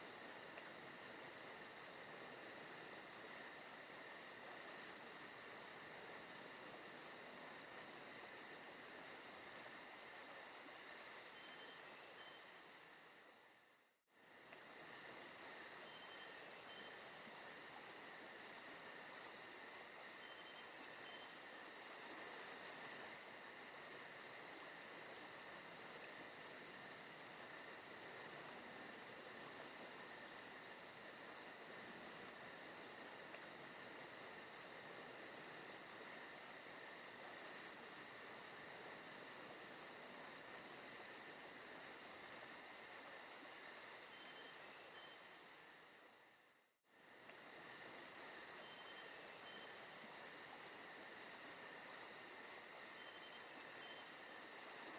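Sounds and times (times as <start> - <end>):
crickets and insects chirring: 0.0 - 54.9.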